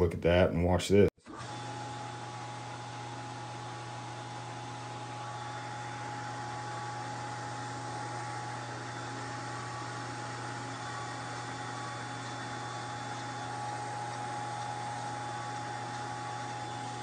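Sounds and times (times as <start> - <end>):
electric motor humming with whine: 1.3 - 17.0.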